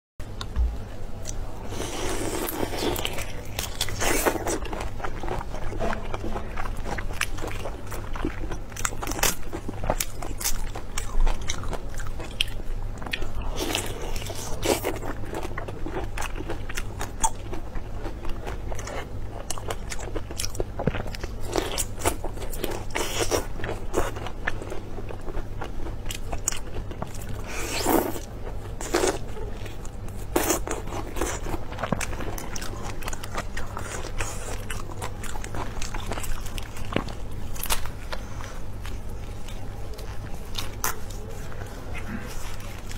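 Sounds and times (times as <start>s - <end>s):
low steady hum: 0.2s - 42.9s
chewing crunchy shrimp: 1.2s - 42.9s.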